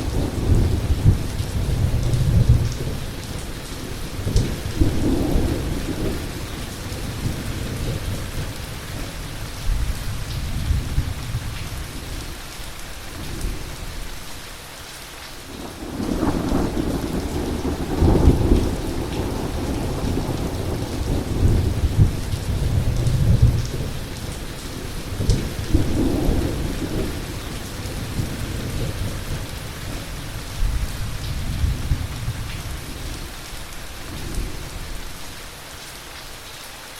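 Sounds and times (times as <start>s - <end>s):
rolling thunder: 0.0s - 12.1s, 15.6s - 33.3s
heavy rain: 0.0s - 36.9s.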